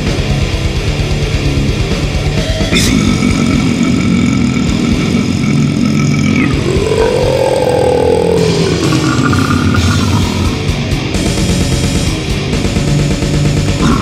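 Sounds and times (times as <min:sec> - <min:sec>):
distorted guitars: 0:00.0 - 0:14.0.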